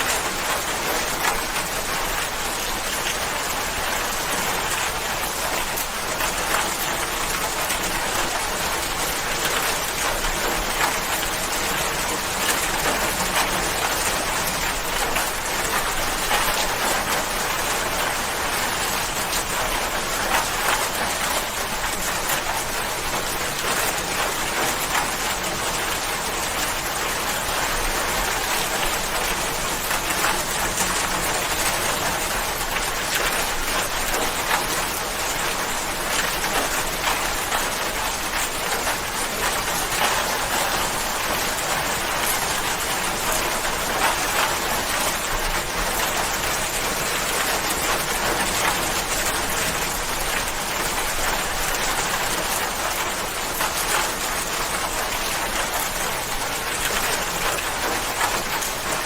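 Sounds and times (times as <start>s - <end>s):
rain patter on a surface: 0.0s - 59.0s.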